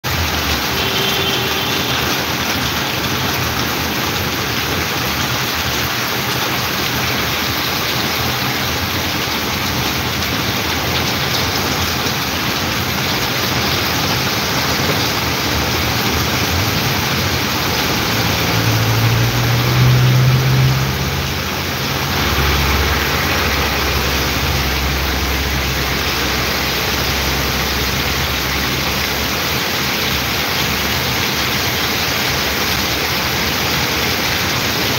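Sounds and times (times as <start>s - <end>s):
heavy rain on pavement: 0.0s - 34.9s.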